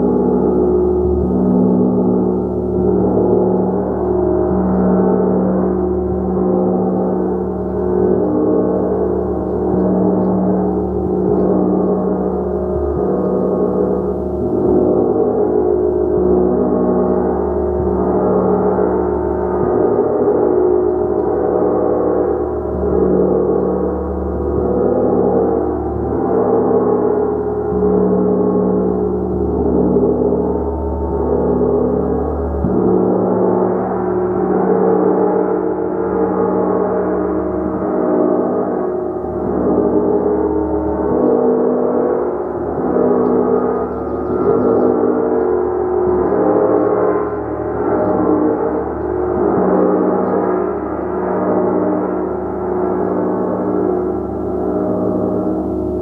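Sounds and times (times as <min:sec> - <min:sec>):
hammered gong played with mallet: 0:00.0 - 0:56.0.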